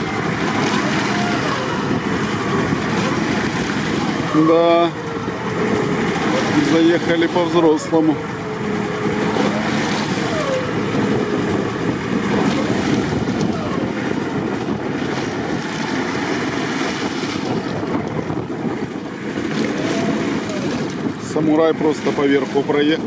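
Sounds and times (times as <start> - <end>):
engine running under load: 0.0 - 23.0
tyres churning through mud: 0.0 - 23.0
wind on microphone: 0.0 - 23.0.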